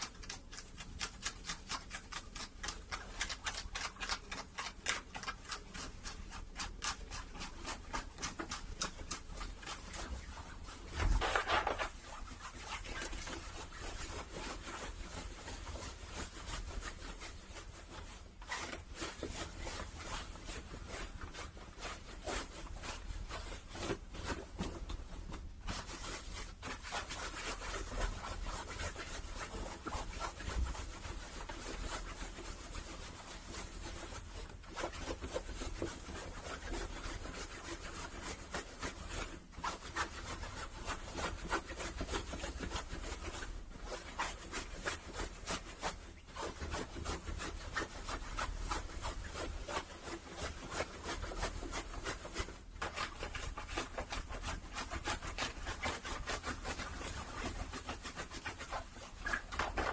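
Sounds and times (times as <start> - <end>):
fingers scratching fabric: 0.0 - 59.9.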